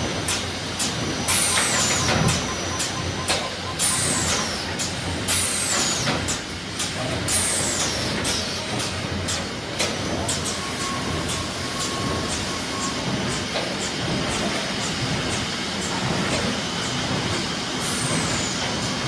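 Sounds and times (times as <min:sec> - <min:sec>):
machine running: 0:00.0 - 0:16.2
sharp machine clacks: 0:00.1 - 0:17.4.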